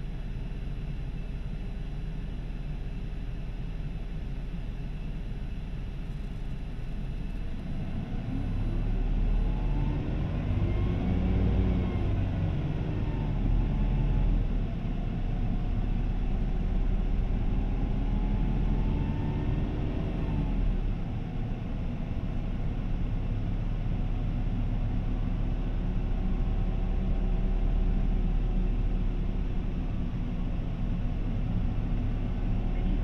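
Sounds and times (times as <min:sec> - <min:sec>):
bus diesel engine: 0:00.0 - 0:33.0.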